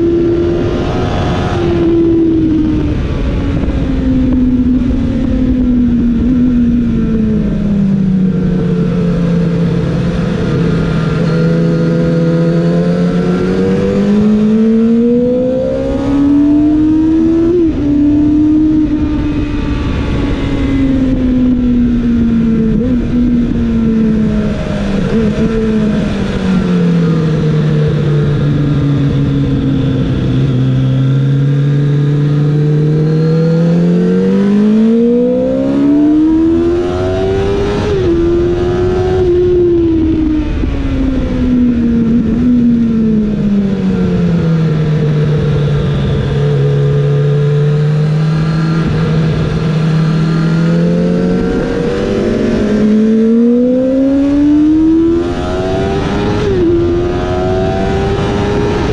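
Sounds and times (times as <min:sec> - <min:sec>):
wind noise rushing: 0:00.0 - 0:47.2, 0:48.2 - 0:58.9
motorcycle engine at speed: 0:00.0 - 0:58.9.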